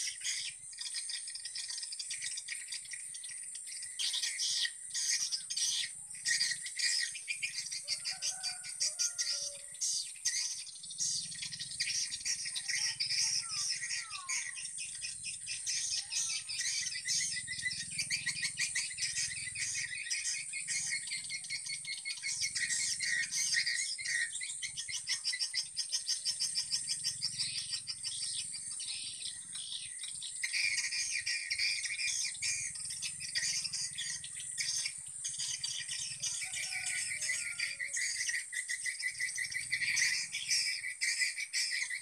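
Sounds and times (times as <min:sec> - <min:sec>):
birds twittering and chirping: 0:00.0 - 0:42.0.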